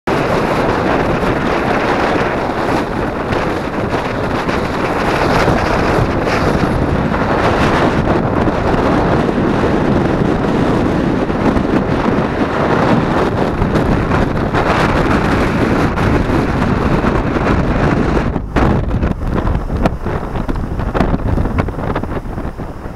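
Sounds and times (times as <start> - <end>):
heavy surf: 0.1 - 22.9
strong wind on microphone: 0.1 - 22.9.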